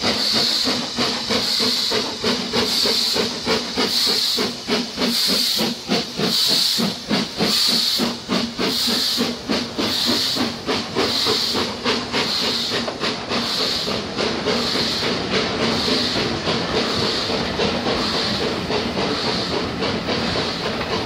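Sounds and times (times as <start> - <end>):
steam hissing: 0.0 - 21.0
steam locomotive exhaust beats: 0.0 - 21.0
train coaches rolling on rails: 0.0 - 21.0.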